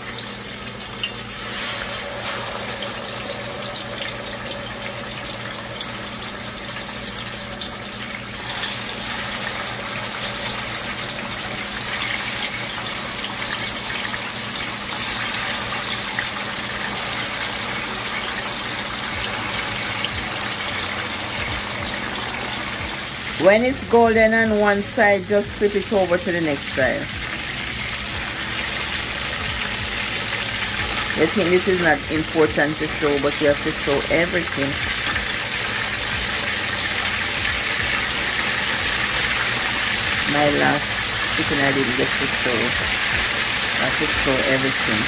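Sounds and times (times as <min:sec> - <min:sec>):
chicken frying in hot oil: 0:00.0 - 0:45.0.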